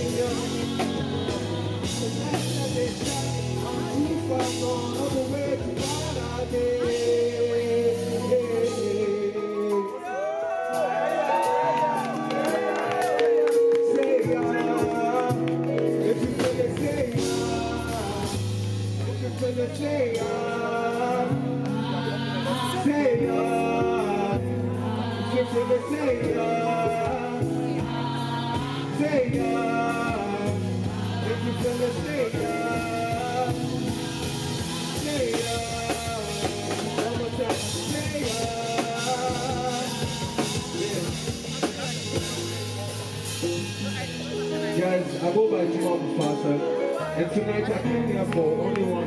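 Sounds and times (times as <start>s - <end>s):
bass guitar: 0.0s - 49.0s
congas: 0.0s - 49.0s
drum kit: 0.0s - 49.0s
keyboard: 0.0s - 49.0s
man singing into microphone: 0.0s - 49.0s.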